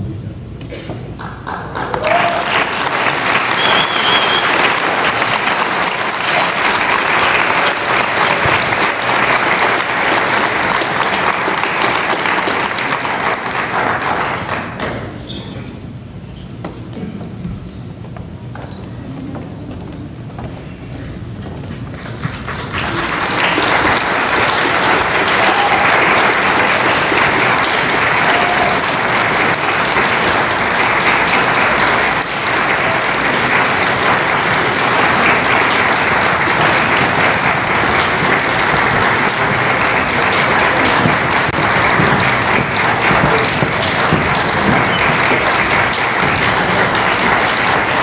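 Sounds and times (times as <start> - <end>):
audience applauding: 1.1 - 15.1, 21.9 - 48.0.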